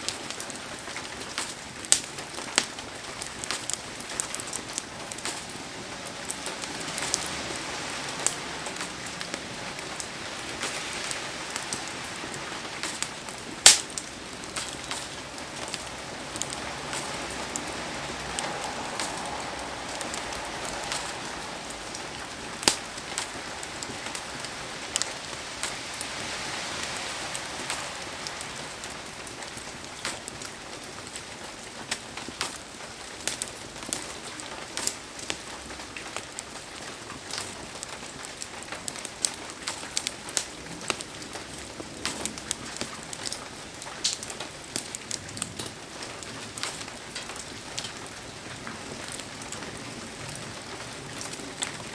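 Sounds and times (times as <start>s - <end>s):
campfire pops and cracks: 0.0s - 51.9s
heavy rain falling: 0.0s - 51.9s.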